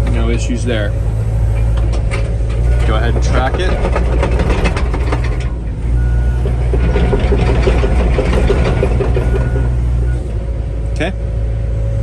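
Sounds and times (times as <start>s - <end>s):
travel alarm beeping: 0.0s - 10.3s
excavator diesel engine under load: 0.0s - 12.0s
tracks clanking: 0.0s - 12.0s.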